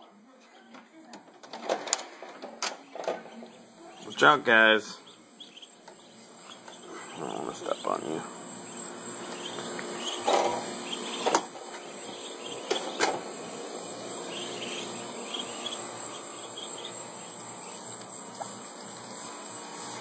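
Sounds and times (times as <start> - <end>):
ducklings peeping: 3.3 - 20.0.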